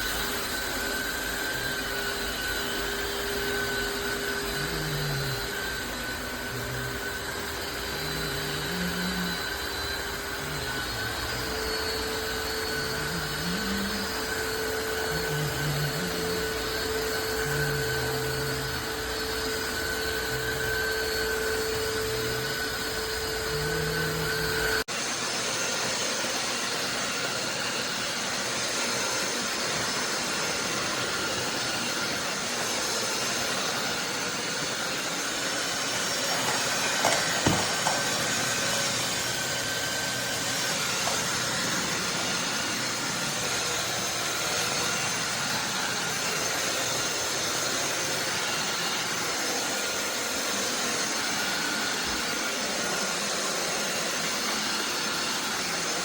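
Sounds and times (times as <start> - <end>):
steam vacuum motor hum: 0.0 - 56.0.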